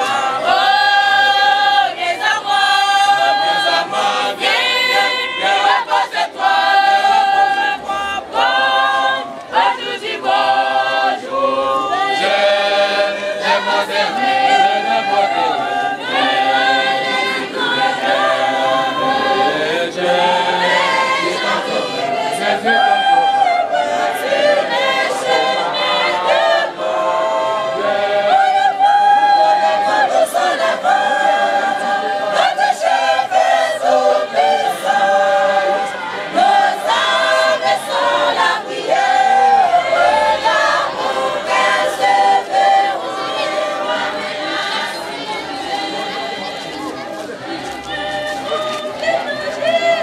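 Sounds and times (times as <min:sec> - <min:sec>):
choir singing a cappella: 0:00.0 - 0:50.0.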